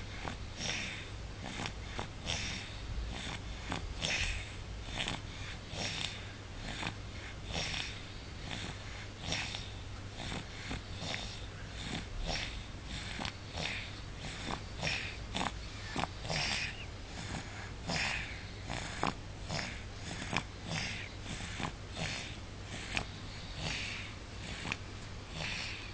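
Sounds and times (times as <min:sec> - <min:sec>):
pet snoring: 0:00.0 - 0:25.9
snuffles and snorts: 0:00.0 - 0:25.9.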